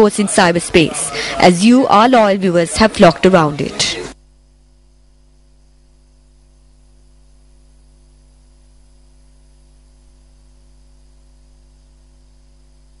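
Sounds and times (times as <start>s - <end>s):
electrical hum and buzz: 0.0s - 13.0s.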